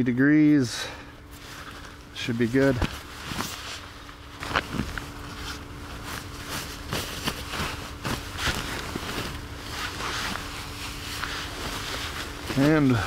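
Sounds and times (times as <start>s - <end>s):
sleeping bag and tent fabric rustling: 1.3s - 13.0s.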